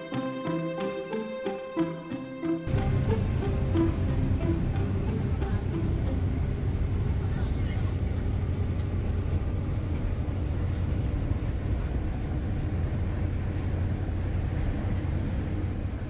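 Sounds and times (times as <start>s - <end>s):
ferry engines droning: 0.0s - 16.0s
water rushing along hull: 2.7s - 16.0s.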